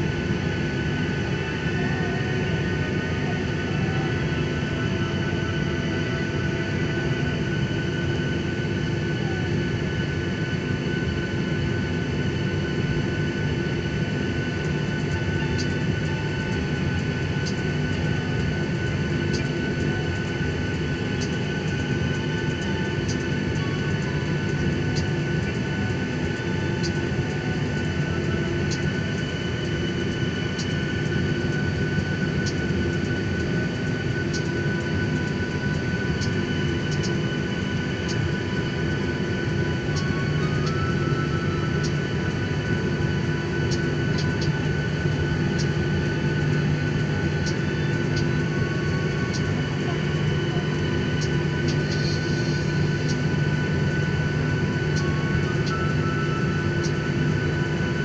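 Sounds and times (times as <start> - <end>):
jet engine hum and whine: 0.0 - 58.0.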